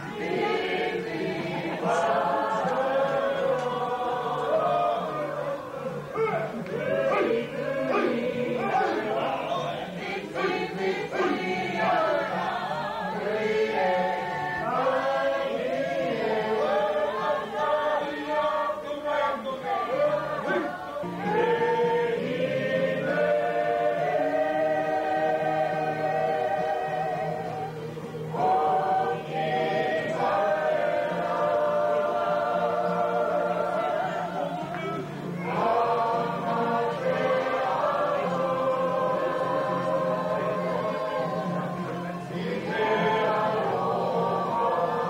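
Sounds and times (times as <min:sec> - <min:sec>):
group of people singing: 0:00.0 - 0:45.0.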